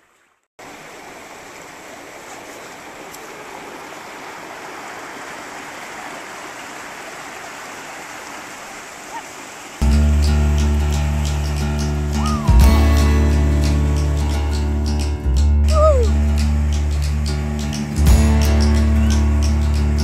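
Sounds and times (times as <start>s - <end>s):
water rushing through channel: 0.0s - 20.0s.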